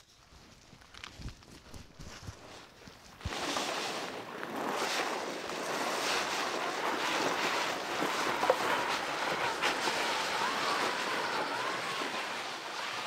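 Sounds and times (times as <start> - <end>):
dinghy scraping over pebbles: 0.0 - 13.0.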